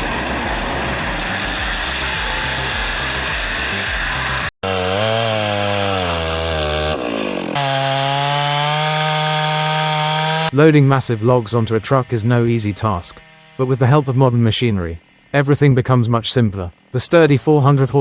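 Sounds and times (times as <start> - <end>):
rough noisy grinding: 0.0 - 15.7
engine-driven saw running: 0.0 - 18.0.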